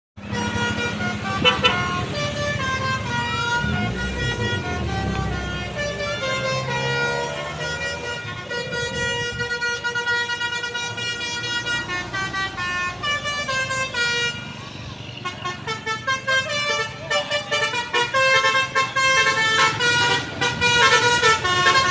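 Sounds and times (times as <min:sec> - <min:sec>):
low engine rumble: 0:00.2 - 0:21.9
musical air horn playing a tune: 0:00.2 - 0:21.9.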